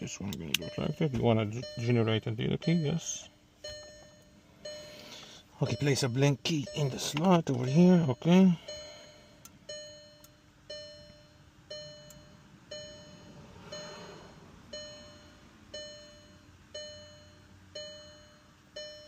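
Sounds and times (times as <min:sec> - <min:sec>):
car warning chime dinging: 0:00.0 - 0:19.0.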